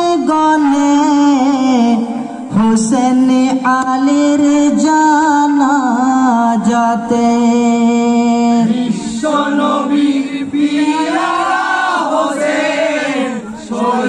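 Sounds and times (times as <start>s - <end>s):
men singing without instruments: 0.0s - 11.5s.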